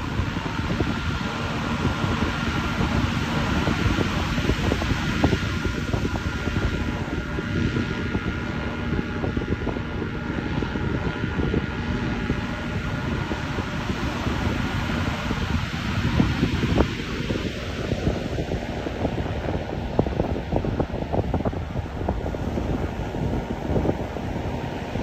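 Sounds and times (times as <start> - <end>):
engine and propeller droning: 0.0 - 25.0
wind rumbling on microphone: 0.0 - 25.0.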